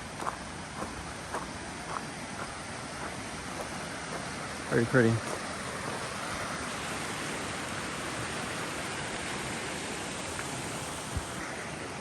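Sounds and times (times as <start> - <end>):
stream rushing and splashing: 0.0 - 12.0.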